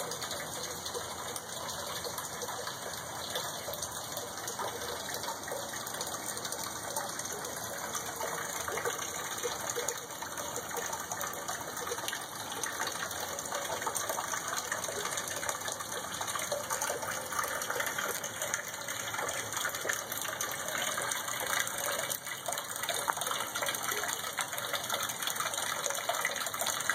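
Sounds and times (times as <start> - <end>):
water splashing from drain: 0.0 - 26.9.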